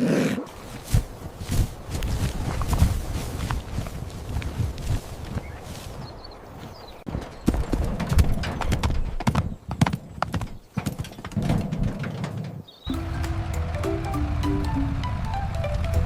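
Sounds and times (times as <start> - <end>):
hooves clopping: 0.5 - 16.0.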